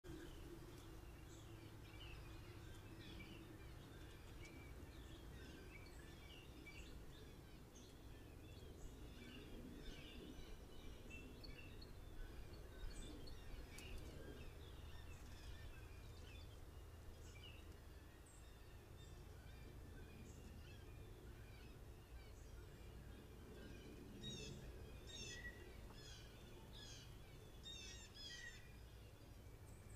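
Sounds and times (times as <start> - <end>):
birds chirping: 0.0 - 29.9
low background noise: 0.0 - 29.9.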